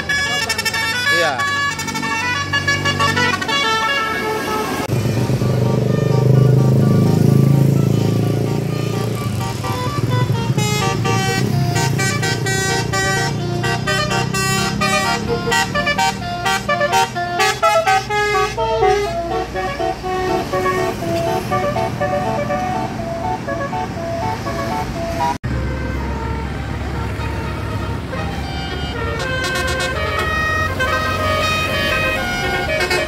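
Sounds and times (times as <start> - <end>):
low engine rumble: 0.0 - 33.0
multi-tone musical bus horn: 0.0 - 33.0.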